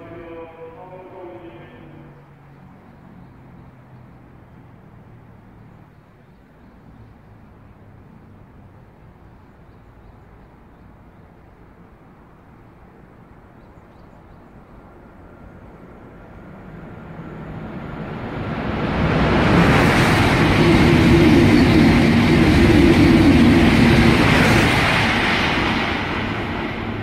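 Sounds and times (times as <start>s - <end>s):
high-speed train approaching: 0.0s - 27.0s.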